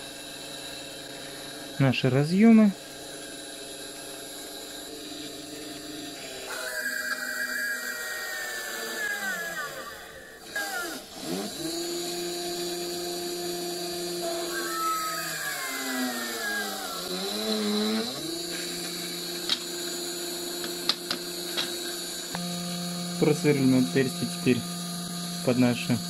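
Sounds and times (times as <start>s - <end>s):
mini drill press motor whining: 0.0s - 26.0s.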